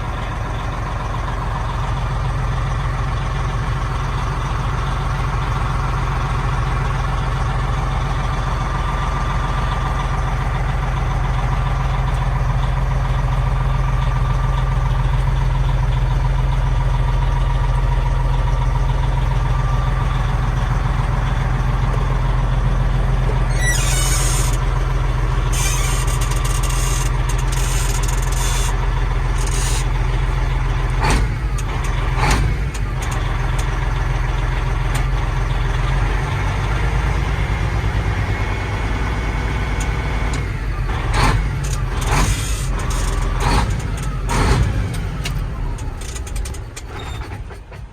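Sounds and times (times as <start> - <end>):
diesel truck engine droning: 0.0 - 47.9.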